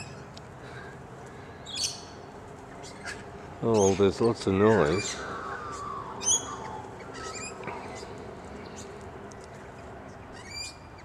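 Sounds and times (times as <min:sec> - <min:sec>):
birds squawking: 0:01.5 - 0:11.0.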